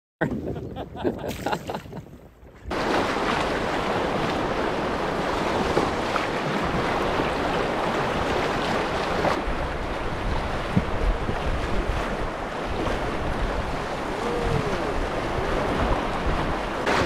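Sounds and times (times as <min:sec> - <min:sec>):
wind on microphone: 0:00.2 - 0:17.0
river water rushing: 0:02.7 - 0:17.0.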